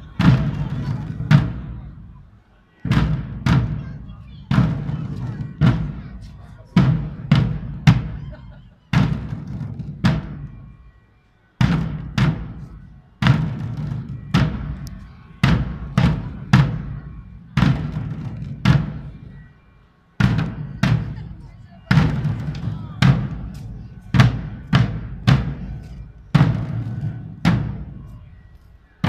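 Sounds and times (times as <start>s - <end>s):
parade drums beating: 0.0s - 29.0s.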